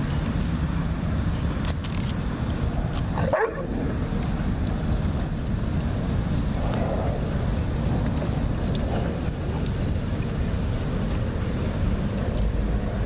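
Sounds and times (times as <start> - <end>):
dogs play-wrestling: 2.5 - 13.0.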